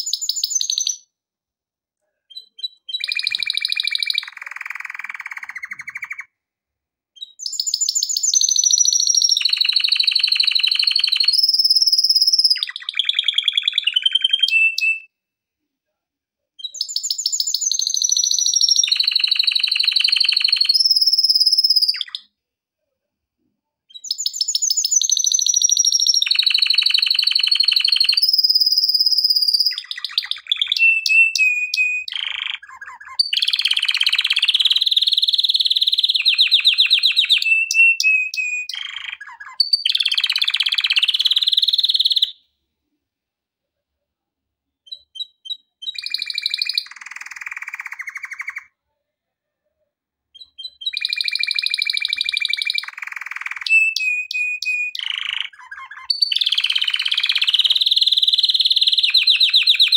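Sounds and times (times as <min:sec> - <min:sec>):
canary singing trills: 0:02.3 - 0:06.3, 0:07.2 - 0:15.1, 0:16.6 - 0:22.3, 0:23.9 - 0:42.4, 0:44.8 - 0:48.7, 0:50.3 - 0:59.9.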